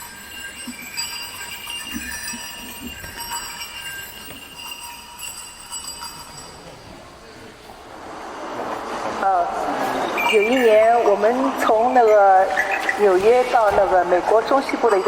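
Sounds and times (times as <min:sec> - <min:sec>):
cowbells clanking and ringing: 0:00.0 - 0:07.7, 0:09.8 - 0:15.0.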